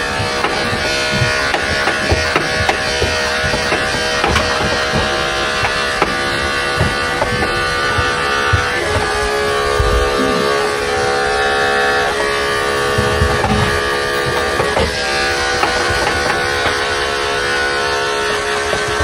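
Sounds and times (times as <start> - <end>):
electric clipper buzzing: 0.0 - 19.0.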